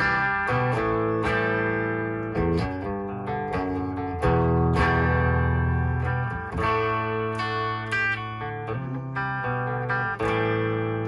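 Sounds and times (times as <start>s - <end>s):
electric guitar chords ringing: 0.0s - 11.0s.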